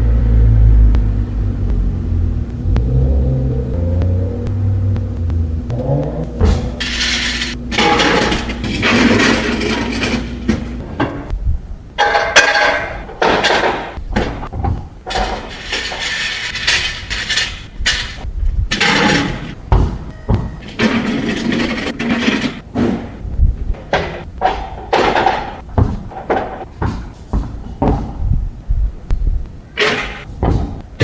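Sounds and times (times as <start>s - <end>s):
hard objects clattering and knocking: 2.5s - 11.4s, 12.0s - 28.5s, 29.7s - 31.0s.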